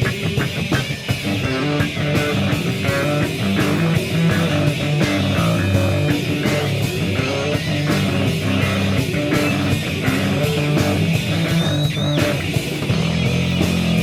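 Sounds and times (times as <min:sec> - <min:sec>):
bass guitar: 0:00.0 - 0:14.0
drums: 0:00.0 - 0:14.0
electric guitar: 0:00.0 - 0:14.0.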